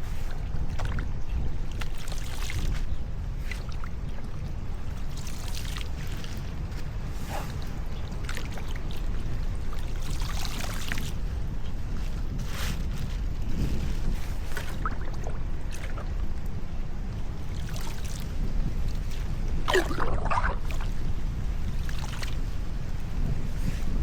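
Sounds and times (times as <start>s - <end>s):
water splashing and trickling: 0.0s - 24.0s
wind rumble on microphone: 0.0s - 24.0s.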